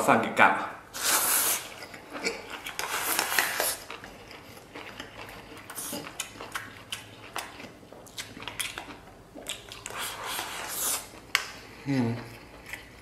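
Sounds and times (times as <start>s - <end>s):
man chewing food: 1.0s - 13.0s.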